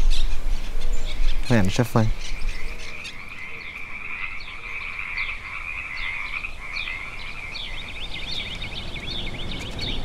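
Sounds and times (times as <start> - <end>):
frogs trilling: 0.0 - 10.0.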